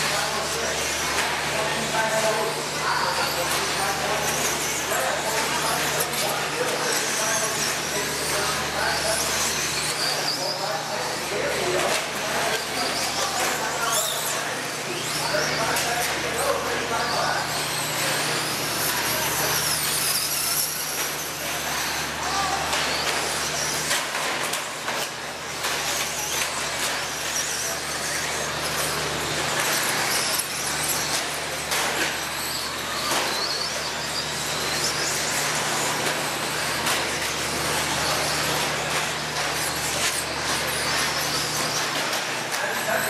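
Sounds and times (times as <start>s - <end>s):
radio-controlled car motors whining: 0.0s - 43.0s.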